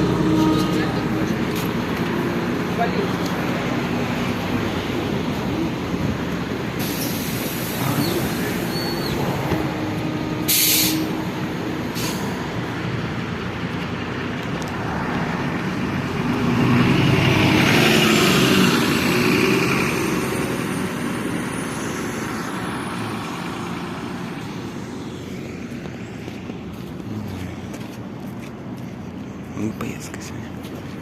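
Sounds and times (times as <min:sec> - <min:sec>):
trolleybus running noise: 0:00.0 - 0:31.0.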